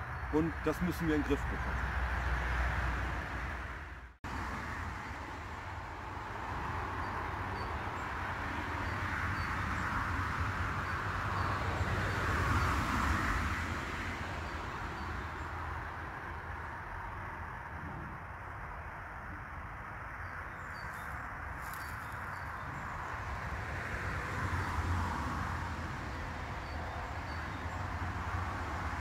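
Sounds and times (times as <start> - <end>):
road traffic tyres on asphalt: 0.0 - 29.0.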